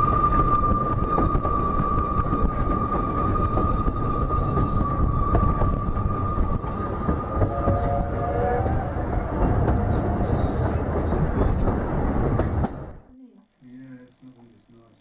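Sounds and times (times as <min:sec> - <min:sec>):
high wheel squeal: 0:00.0 - 0:12.9
low wheel squeal: 0:00.0 - 0:12.9
train rumbling on rails: 0:00.0 - 0:13.1.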